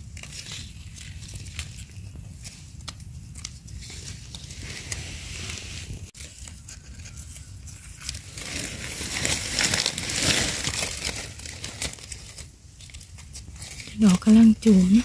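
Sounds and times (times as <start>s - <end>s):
dry leaves crunching and rustling: 0.0s - 15.0s.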